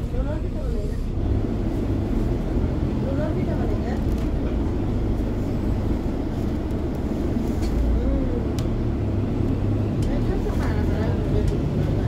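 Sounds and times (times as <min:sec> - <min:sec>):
bus engine and tyres rumbling: 0:00.0 - 0:12.0.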